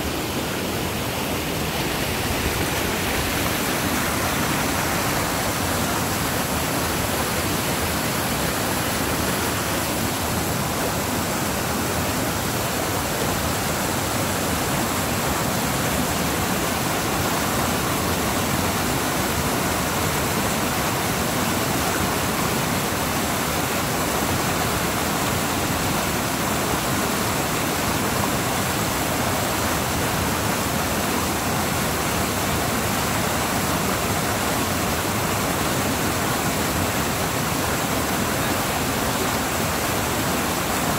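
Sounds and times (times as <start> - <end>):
creek rushing over rapids: 0.0 - 40.9.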